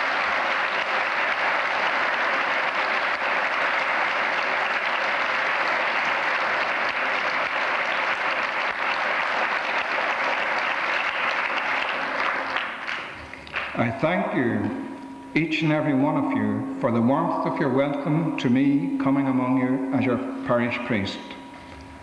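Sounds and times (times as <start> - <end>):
congregation applauding: 0.0 - 22.0.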